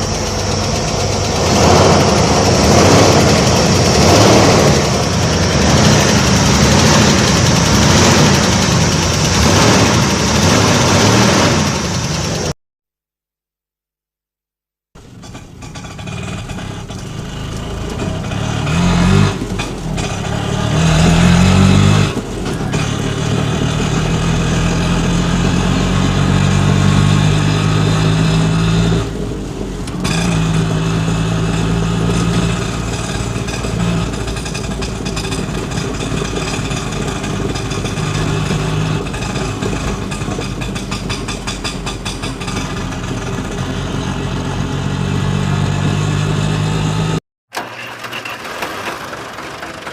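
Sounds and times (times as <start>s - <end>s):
vehicle engine revving: 0.0s - 12.6s, 15.0s - 47.2s.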